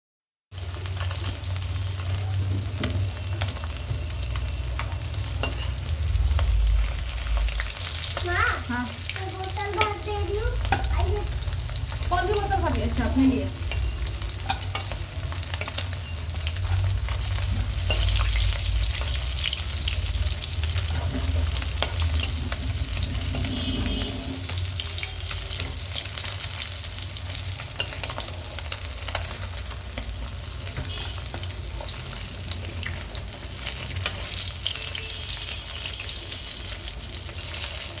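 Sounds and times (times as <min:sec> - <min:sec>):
fish sizzling in hot oil: 0:00.5 - 0:38.0.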